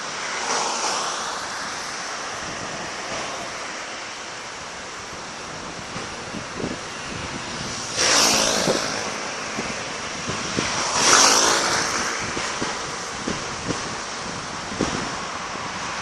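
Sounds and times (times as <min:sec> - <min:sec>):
fireworks bangs with hissing spray: 0:02.4 - 0:16.0.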